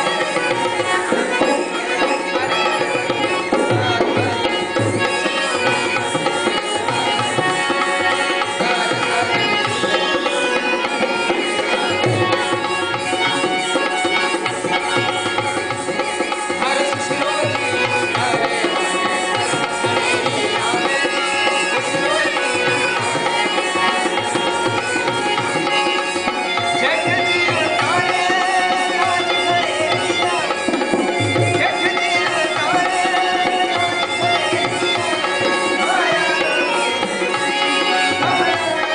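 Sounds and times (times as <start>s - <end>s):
hand drum rhythm: 0.0s - 38.9s
held instrumental notes: 0.0s - 38.9s
man singing: 0.0s - 38.9s.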